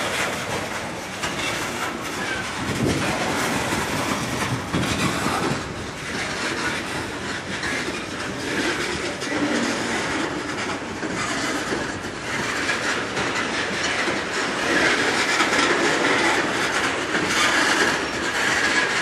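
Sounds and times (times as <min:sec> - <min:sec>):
freight train wheels clicking: 0:00.0 - 0:19.0.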